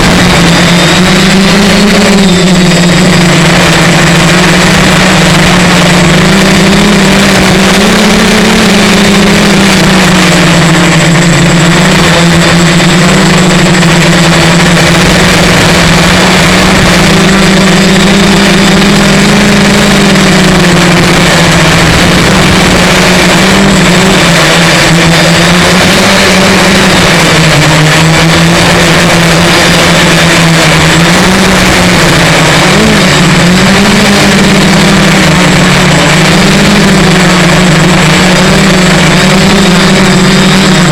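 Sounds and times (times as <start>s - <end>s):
drone motors buzzing: 0.0s - 40.9s
rushing wind noise: 0.0s - 40.9s.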